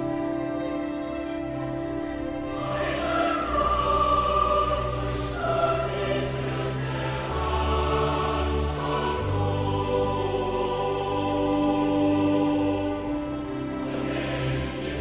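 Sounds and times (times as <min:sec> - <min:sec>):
choir singing long notes: 0:01.4 - 0:15.0.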